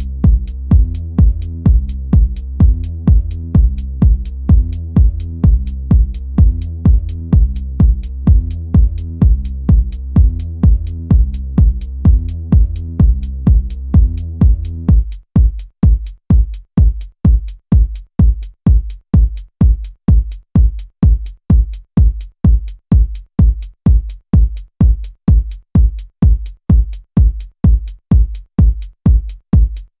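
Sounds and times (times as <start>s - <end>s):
drum machine kick drum: 0.0s - 30.0s.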